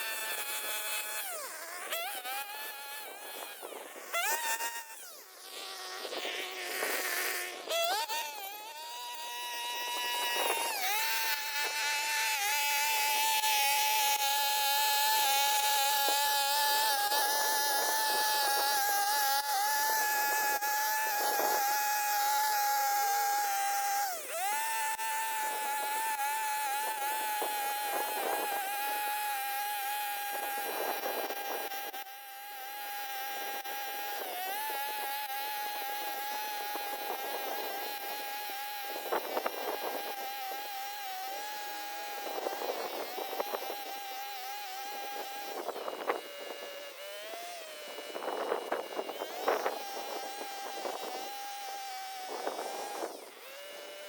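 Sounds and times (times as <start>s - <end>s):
small motor whining: 0.0s - 54.0s.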